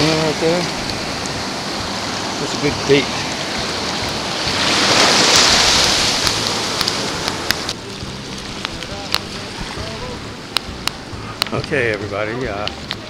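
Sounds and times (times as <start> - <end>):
small waves washing on sand: 0.0 - 12.2.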